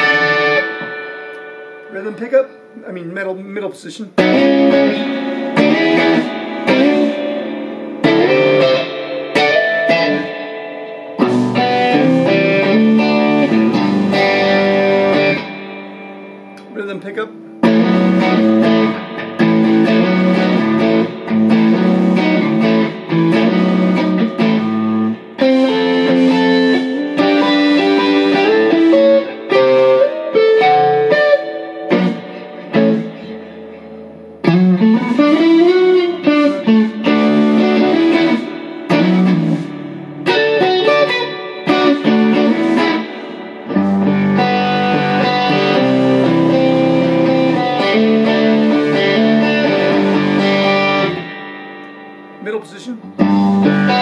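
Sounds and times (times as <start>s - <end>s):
electric guitar through amplifier: 0.0s - 2.9s, 4.1s - 54.0s.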